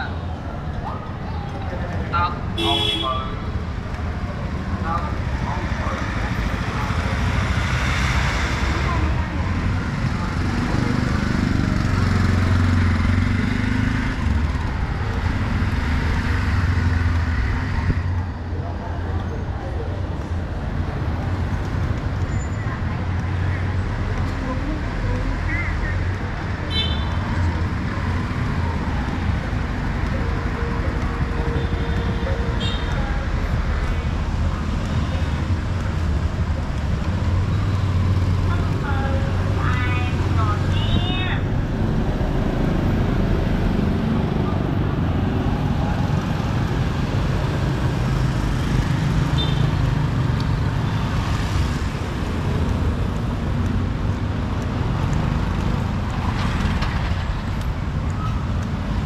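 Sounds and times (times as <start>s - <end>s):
road noise: 0.0s - 59.0s
vehicle engines humming: 0.0s - 59.0s.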